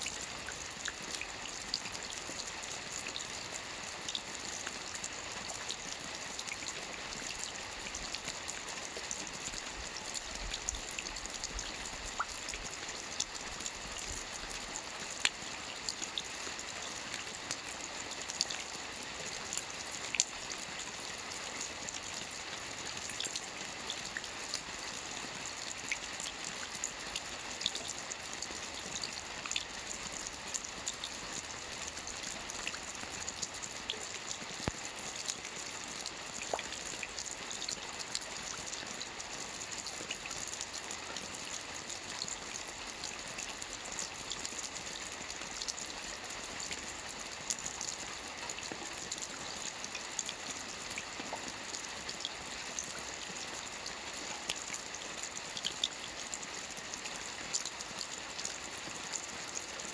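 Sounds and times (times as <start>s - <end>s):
soft rain on a roof: 0.0s - 59.9s.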